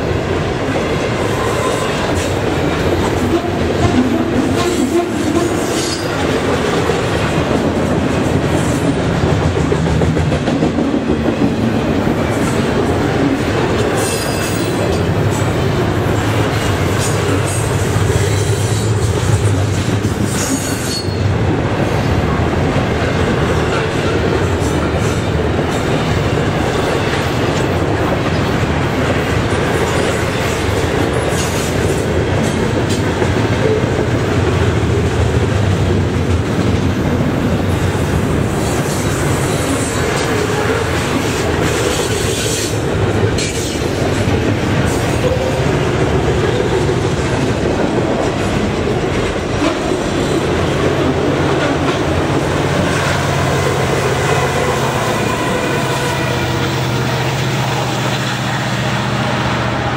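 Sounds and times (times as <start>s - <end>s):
diesel locomotive engine: 0.0s - 59.9s
freight cars rolling on rails: 0.0s - 59.9s.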